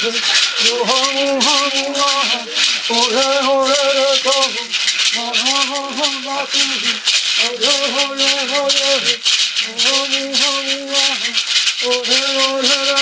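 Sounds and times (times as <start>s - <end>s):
gourd rattles shaken: 0.0s - 13.0s
person chanting: 0.0s - 13.0s.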